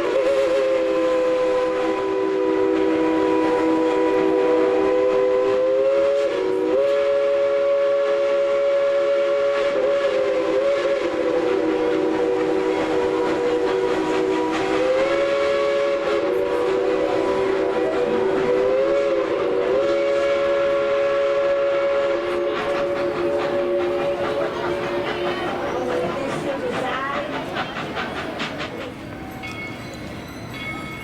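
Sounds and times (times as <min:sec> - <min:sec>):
steam locomotive chime whistle: 0:00.0 - 0:31.0.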